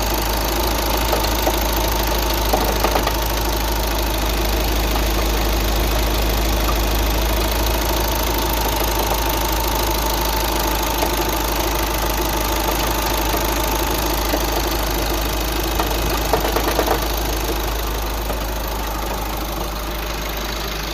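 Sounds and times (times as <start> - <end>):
car engine running: 0.0 - 20.9
engine knocking: 0.0 - 20.9.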